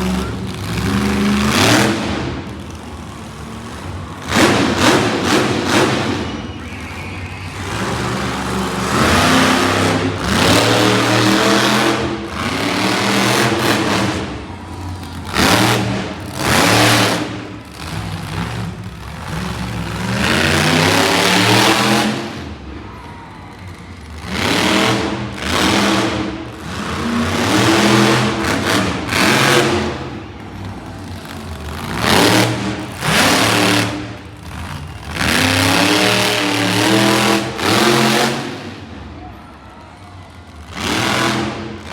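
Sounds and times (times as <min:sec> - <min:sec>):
truck engine revving: 0:00.0 - 0:22.9, 0:23.6 - 0:39.2, 0:40.2 - 0:41.9.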